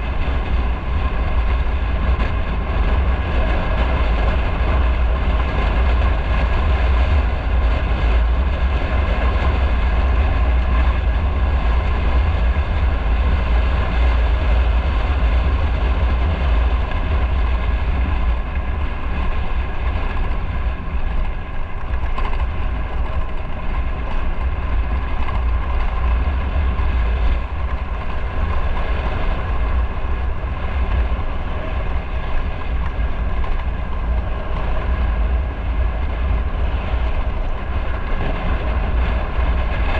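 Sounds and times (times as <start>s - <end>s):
low rumble of riding noise: 0.0s - 39.9s
motorcycle engine running: 0.0s - 39.9s.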